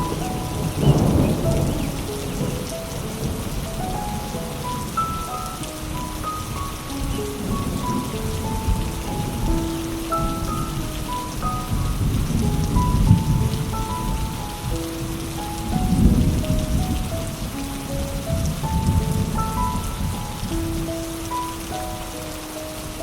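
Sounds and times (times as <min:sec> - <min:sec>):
slow melody of held notes: 0:00.0 - 0:23.0
steady rain: 0:00.0 - 0:23.0
thunder rumbling: 0:00.0 - 0:23.0.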